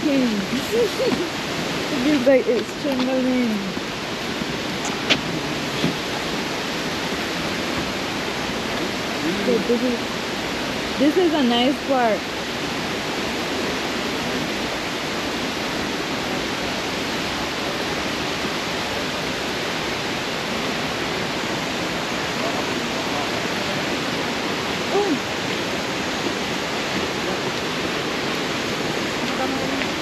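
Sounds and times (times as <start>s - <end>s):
waterfall rushing into pool: 0.0s - 30.0s.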